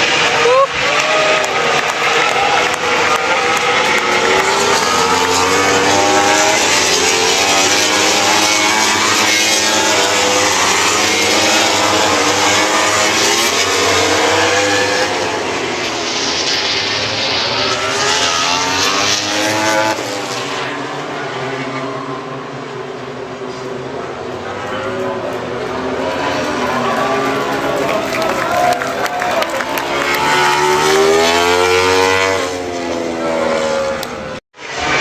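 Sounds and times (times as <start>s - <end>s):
race motorcycles passing at speed: 0.0s - 35.0s.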